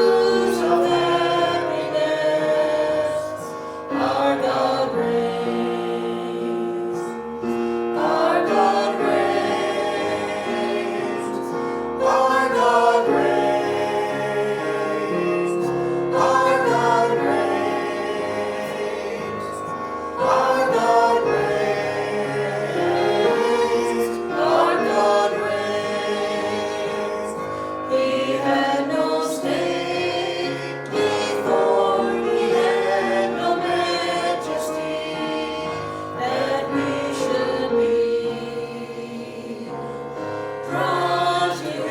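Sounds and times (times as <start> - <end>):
worship team singing: 0.0 - 41.9.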